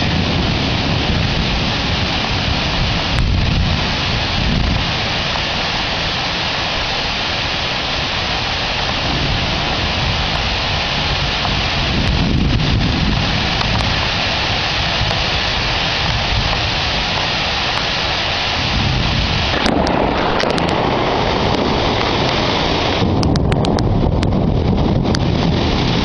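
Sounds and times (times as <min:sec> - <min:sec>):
deep thunder rumble: 0:00.0 - 0:26.0
heavy rain pouring: 0:00.0 - 0:26.0
sharp ticks of raindrops: 0:00.0 - 0:26.0.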